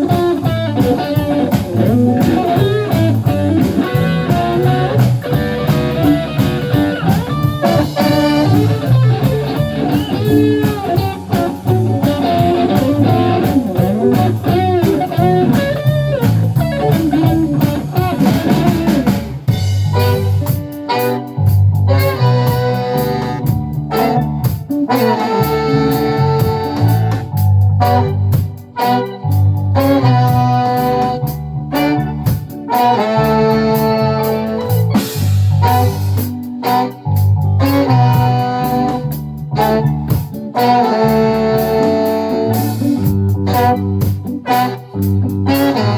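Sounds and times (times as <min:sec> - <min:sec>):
electric guitar solo: 0:00.0 - 0:45.9
live rock band playing: 0:00.0 - 0:45.9.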